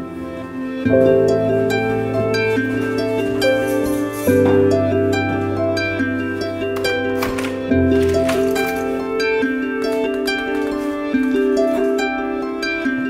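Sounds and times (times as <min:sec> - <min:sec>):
plucked harp-like notes: 0:00.0 - 0:13.0.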